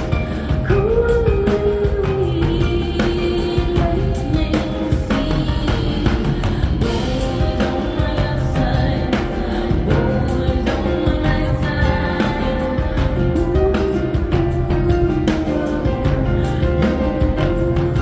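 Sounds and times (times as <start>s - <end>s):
steady drum beat: 0.0s - 18.0s
woman singing: 0.0s - 18.0s.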